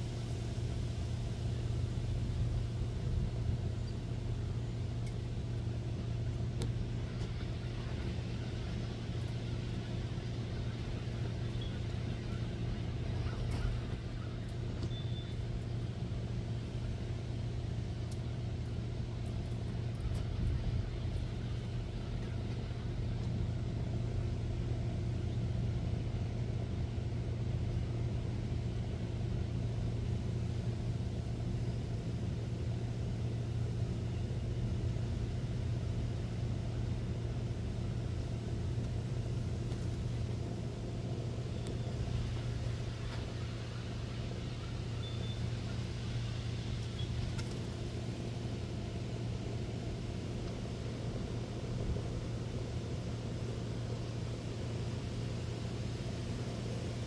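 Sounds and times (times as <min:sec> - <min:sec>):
low mechanical hum and rumble: 0:00.0 - 0:57.0.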